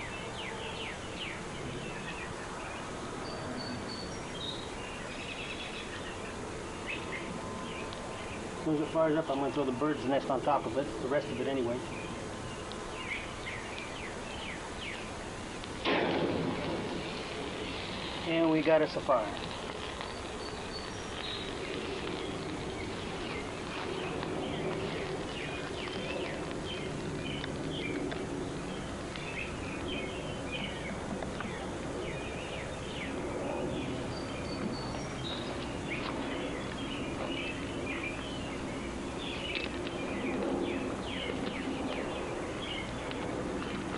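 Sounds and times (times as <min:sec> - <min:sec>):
birds chirping and calling: 0:00.0 - 0:15.4, 0:16.4 - 0:43.9
outdoor background rush: 0:00.0 - 0:43.9.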